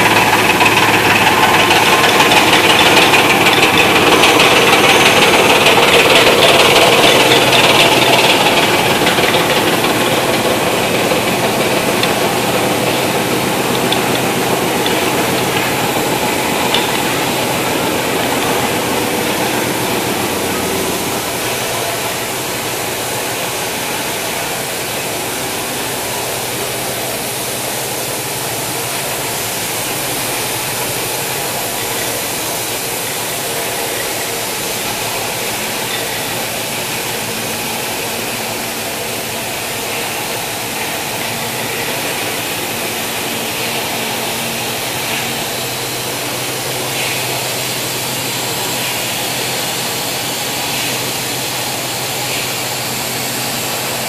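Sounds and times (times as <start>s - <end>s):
low machinery hum: 0.0s - 54.0s
woodworking machinery rushing noise: 0.0s - 54.0s.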